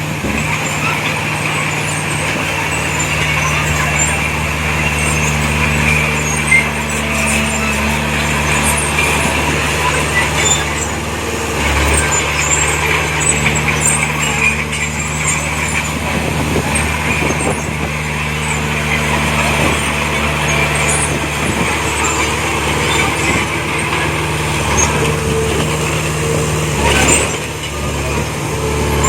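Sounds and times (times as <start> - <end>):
heavy machinery diesel engine running: 0.0 - 29.0.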